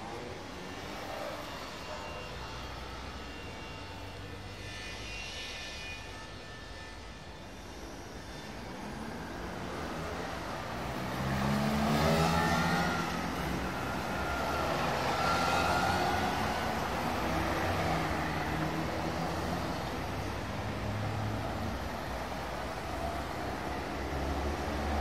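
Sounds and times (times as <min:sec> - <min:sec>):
trams passing: 0:00.0 - 0:05.2, 0:07.3 - 0:25.0
heavy road traffic: 0:00.0 - 0:25.0
high thin whine: 0:00.0 - 0:25.0.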